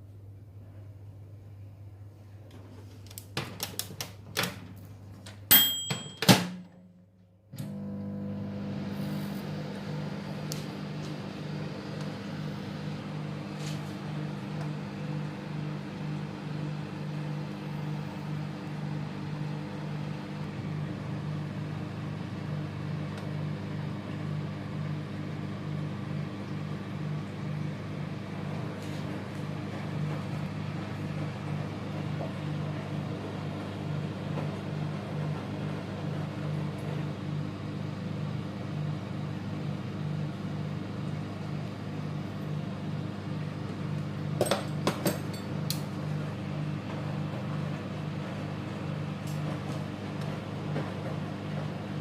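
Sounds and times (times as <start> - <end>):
microwave oven humming: 0.0 - 52.0.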